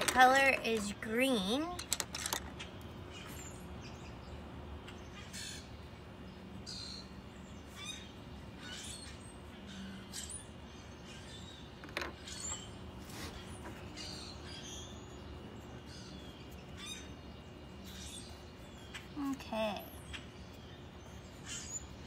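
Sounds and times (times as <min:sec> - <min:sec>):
birds chirping: 0:00.0 - 0:22.0
faint steady background noise: 0:00.0 - 0:22.0.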